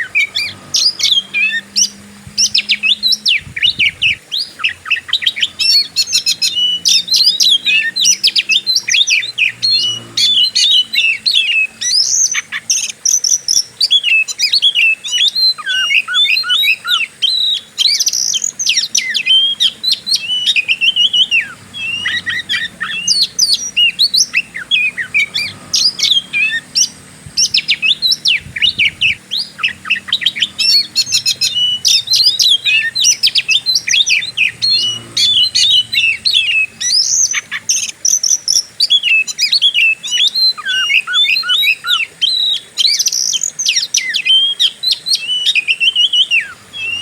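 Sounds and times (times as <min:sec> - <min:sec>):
bird singing whistles and trills: 0:00.0 - 0:47.0.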